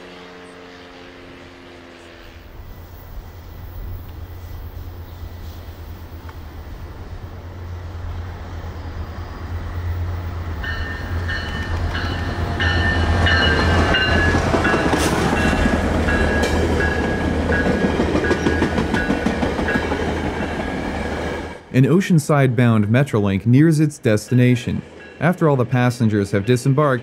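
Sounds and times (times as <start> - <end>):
train wheel noise: 0.0 - 22.0
train engine rumble: 0.0 - 27.0.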